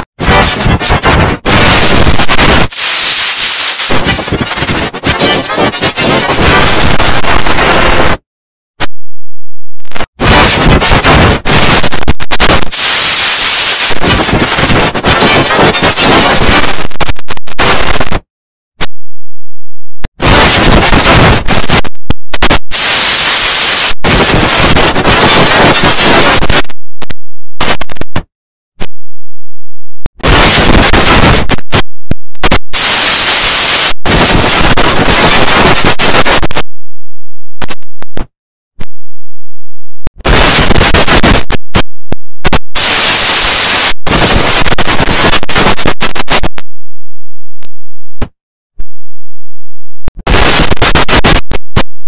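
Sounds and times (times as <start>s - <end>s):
harsh distorted noise: 0.0s - 9.0s, 9.6s - 19.0s, 20.0s - 29.1s, 30.1s - 36.8s, 37.4s - 39.0s, 40.1s - 46.8s, 50.1s - 52.0s.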